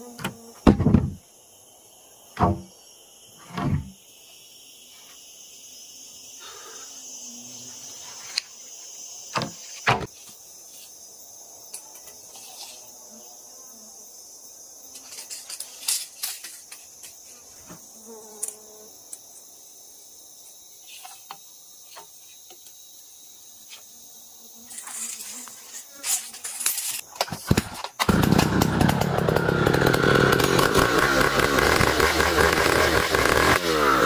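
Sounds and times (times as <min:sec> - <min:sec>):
high-pitched insect chorus: 0:00.0 - 0:30.4.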